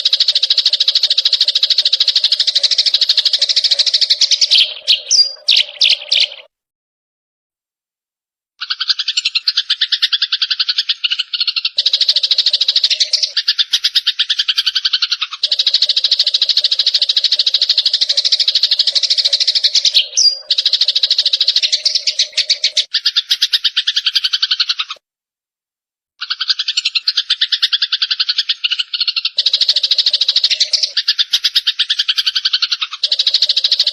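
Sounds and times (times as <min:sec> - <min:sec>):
songbird chattering trill: 0:00.0 - 0:06.5, 0:08.6 - 0:25.0, 0:26.2 - 0:33.9.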